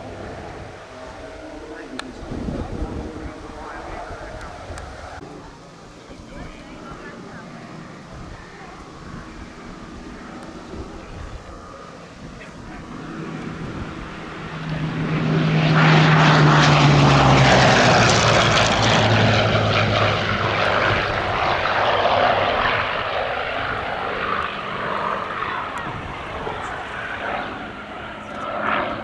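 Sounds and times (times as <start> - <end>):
propeller plane engine flypast: 0.0 - 29.0.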